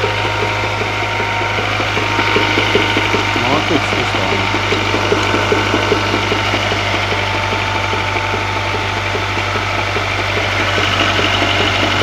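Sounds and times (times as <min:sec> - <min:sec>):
engine knocking: 0:00.0 - 0:12.0.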